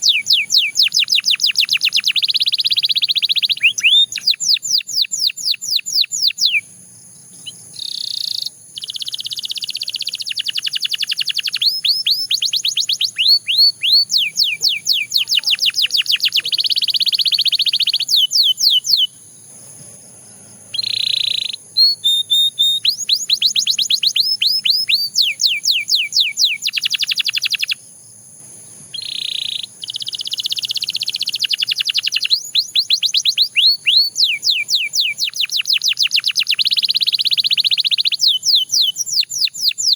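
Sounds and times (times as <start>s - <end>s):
canary singing: 0.0s - 27.8s, 28.7s - 39.9s.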